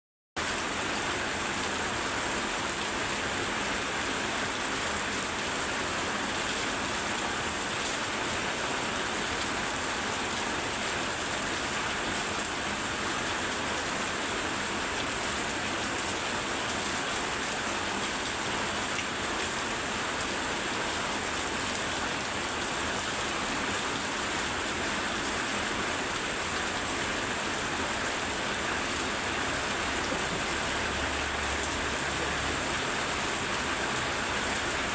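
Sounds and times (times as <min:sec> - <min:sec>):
heavy rain: 0:00.4 - 0:34.9.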